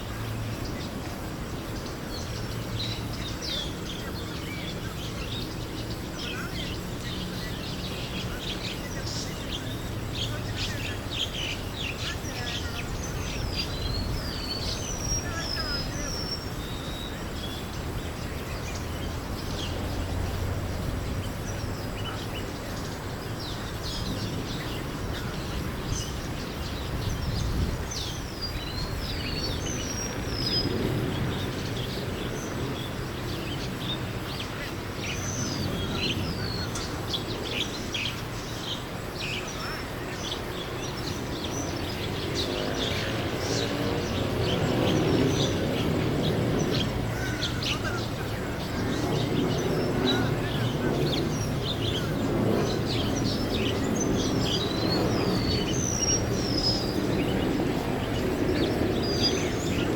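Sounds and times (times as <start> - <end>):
many birds chirping: 0.0 - 59.9.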